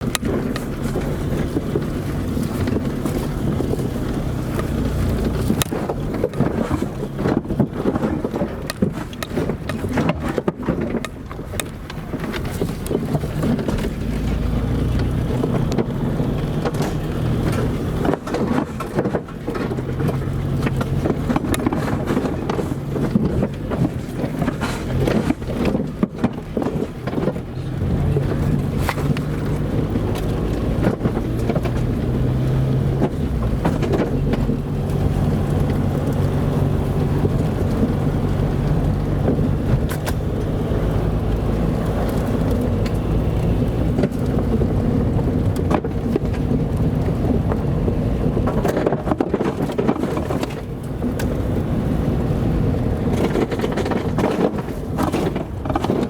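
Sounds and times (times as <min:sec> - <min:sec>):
car engine running: 0:00.0 - 0:56.0
knocks and rattles from bumps: 0:00.0 - 0:56.0
tyre and road noise: 0:00.0 - 0:56.0.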